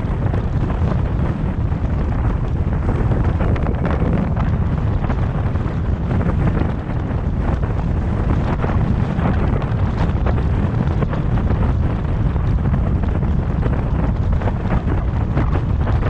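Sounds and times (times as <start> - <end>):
road and tyre rumble: 0.0 - 16.0
wind buffeting microphone: 0.0 - 16.0.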